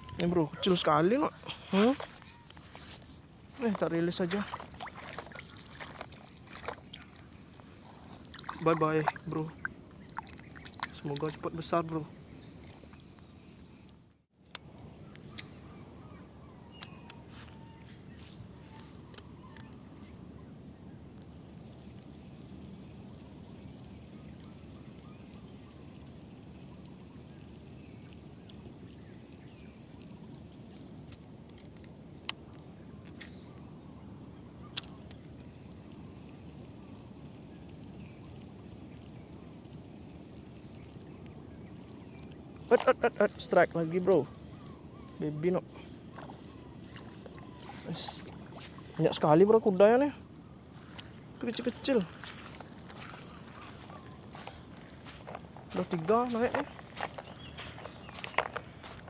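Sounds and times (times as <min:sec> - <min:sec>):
insects droning: 0:00.0 - 0:59.0
low outdoor hiss: 0:00.0 - 0:59.0.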